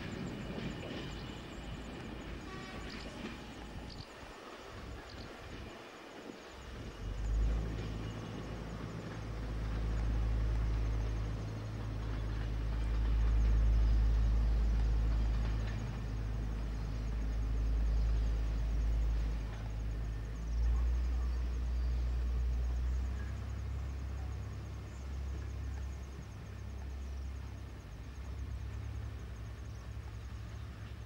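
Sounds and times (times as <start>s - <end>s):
diesel railcar engine drone: 0.0s - 31.0s.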